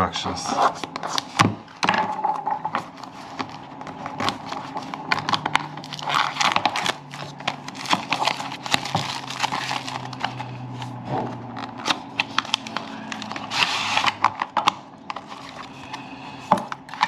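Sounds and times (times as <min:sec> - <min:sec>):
packaging rustling and crinkling: 0:02.6 - 0:17.0.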